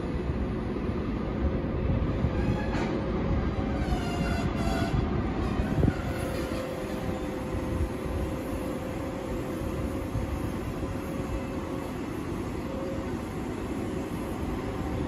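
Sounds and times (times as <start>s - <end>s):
locomotive drone: 0.0s - 15.0s
train wheels rumbling on rail: 0.0s - 15.0s.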